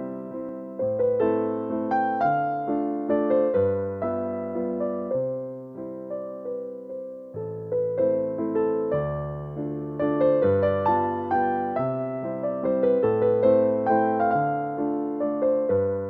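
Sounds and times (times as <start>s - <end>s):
slow gentle piano melody: 0.0s - 16.0s.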